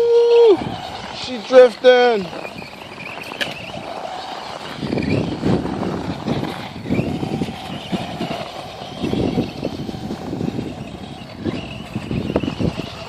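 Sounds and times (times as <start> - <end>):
electric motor whine: 0.0 - 13.0
low rumbling bursts: 0.0 - 13.0.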